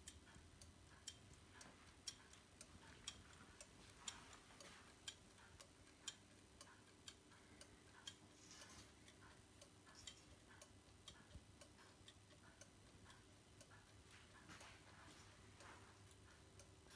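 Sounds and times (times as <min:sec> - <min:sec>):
clock ticking faintly: 0:00.0 - 0:16.9.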